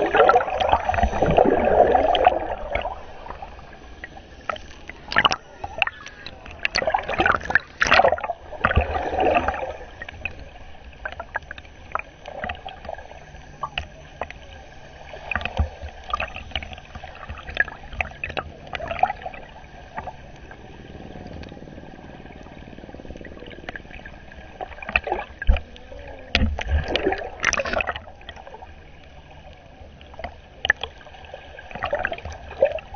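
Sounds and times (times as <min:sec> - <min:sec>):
muffled underwater water sloshing: 0:00.0 - 0:32.9
water surges and splashes: 0:00.0 - 0:32.9.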